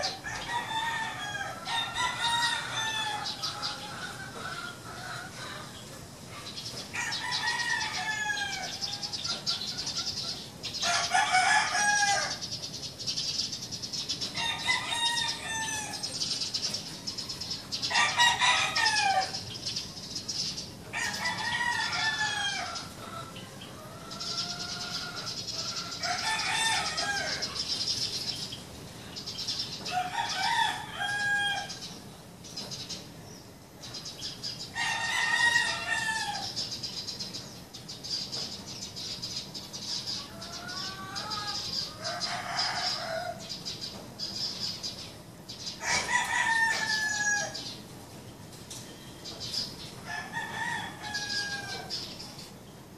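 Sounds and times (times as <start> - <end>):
roosters crowing: 0.0 - 32.8, 33.8 - 36.8, 38.0 - 52.3.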